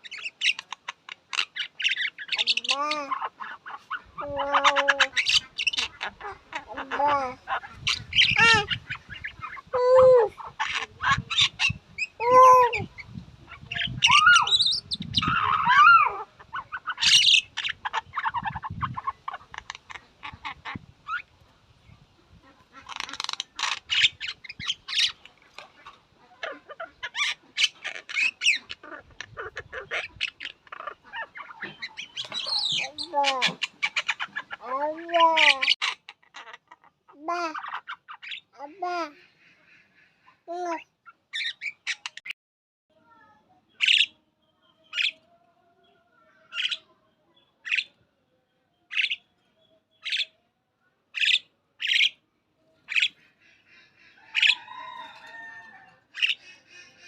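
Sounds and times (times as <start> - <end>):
myna bird calling: 0.0 - 21.4, 22.4 - 42.4, 43.8 - 48.0, 48.8 - 50.4, 51.1 - 57.0.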